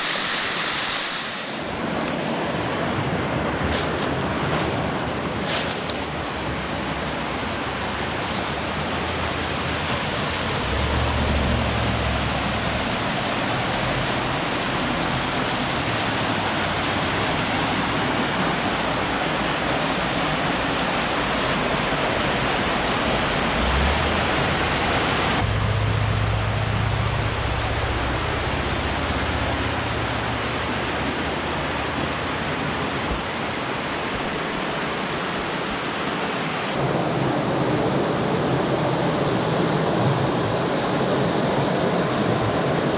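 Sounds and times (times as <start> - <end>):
rushing water roar: 0.0 - 42.9.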